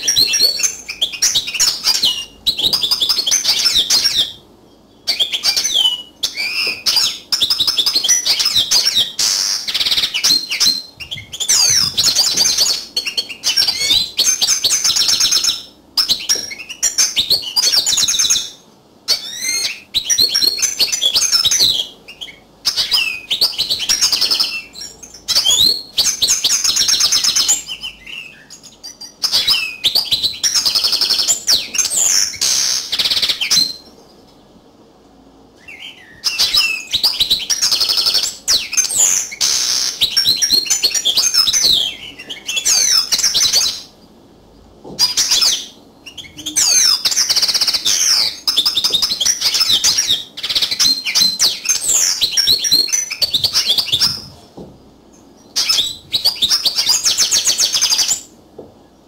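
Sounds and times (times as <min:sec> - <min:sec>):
goldfinch chirps and trills: 0:00.0 - 0:33.9, 0:35.6 - 0:43.9, 0:45.0 - 0:54.4, 0:55.4 - 0:58.3.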